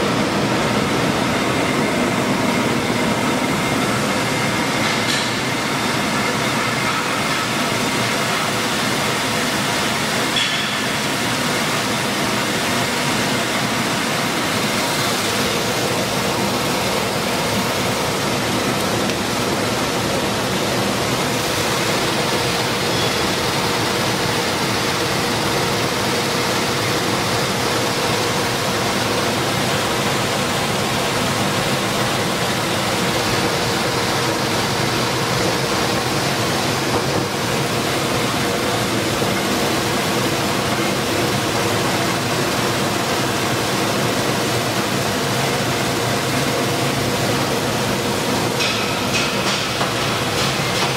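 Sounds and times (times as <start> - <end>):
milling machine running: 0.0 - 50.9.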